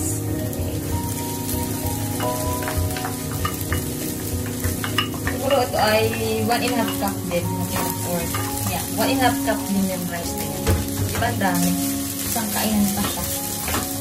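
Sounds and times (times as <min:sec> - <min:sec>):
food sizzling: 0:00.0 - 0:14.0
spatula scraping frying pan: 0:01.0 - 0:14.0.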